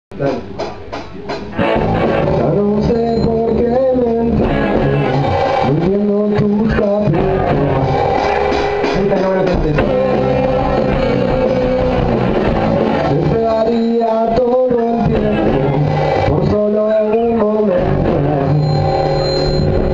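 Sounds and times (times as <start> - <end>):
rock band playing loud: 0.1 - 19.9
electric guitar: 0.2 - 19.9.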